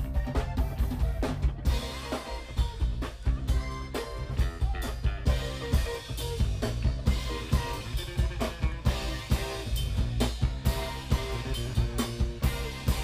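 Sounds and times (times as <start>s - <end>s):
drum kit beat: 0.0s - 13.0s
electric guitar: 0.0s - 13.0s.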